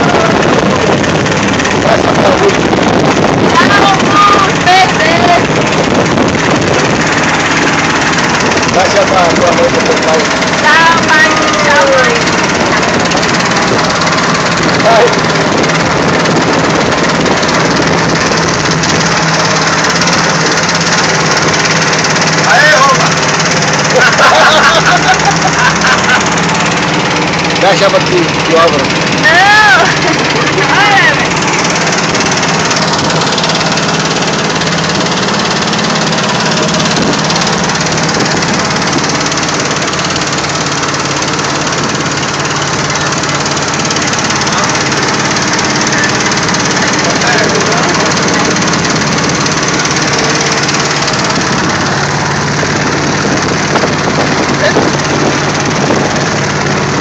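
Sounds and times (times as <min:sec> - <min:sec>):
boat motor running: 0:00.0 - 0:57.0
dense rushing noise: 0:00.0 - 0:57.0.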